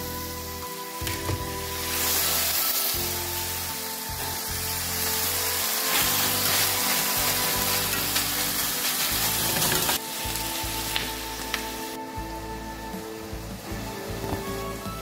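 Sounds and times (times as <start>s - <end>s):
meat and onions sizzling: 0.0s - 15.0s
soft background music: 0.0s - 15.0s.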